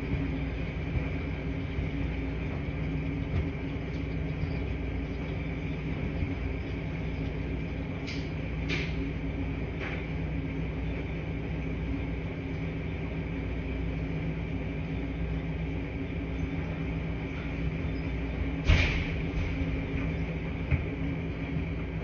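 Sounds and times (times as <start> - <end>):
washing machines humming: 0.0 - 22.0.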